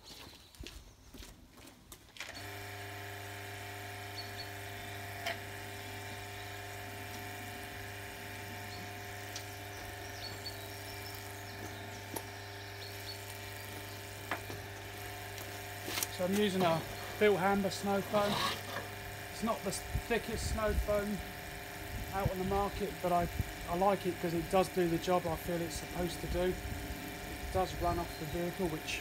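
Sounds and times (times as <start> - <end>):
electric motor humming: 2.2 - 29.0.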